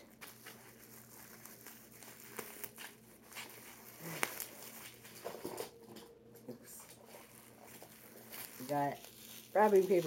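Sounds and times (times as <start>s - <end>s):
plastic packing material crinkling: 0.0s - 5.8s, 6.7s - 10.0s.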